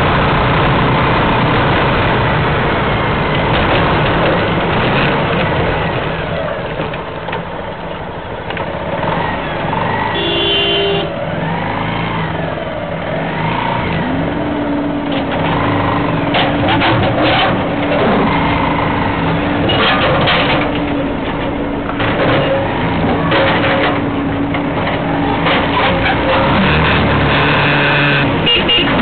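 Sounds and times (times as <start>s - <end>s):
rattling knocks from potholes: 1.4s - 11.3s, 13.8s - 29.0s.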